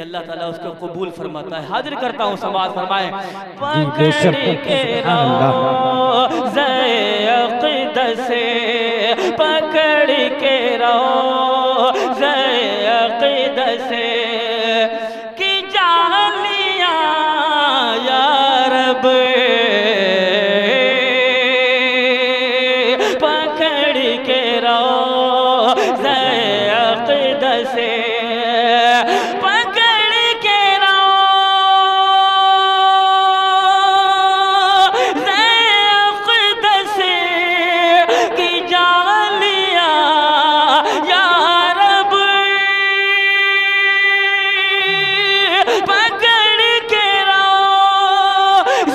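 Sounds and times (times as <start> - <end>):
man singing unaccompanied: 2.0 - 48.9.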